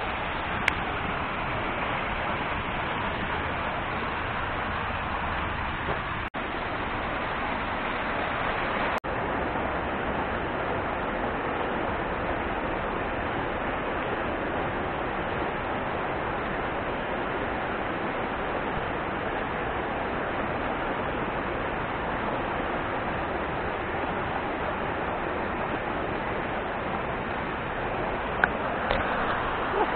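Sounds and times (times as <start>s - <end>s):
water rushing over a dam: 0.0s - 29.9s.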